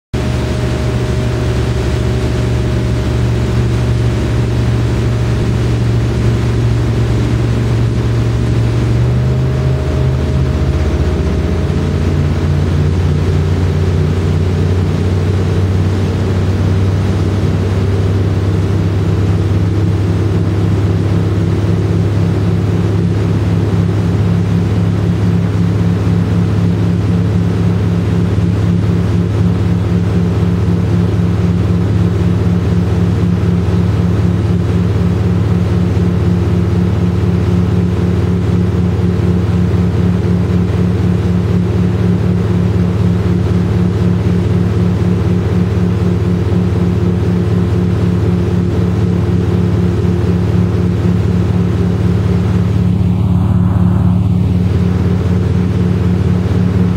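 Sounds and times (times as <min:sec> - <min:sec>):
motorboat engine running: 0:00.1 - 0:56.9
water rushing against hull: 0:00.2 - 0:56.9.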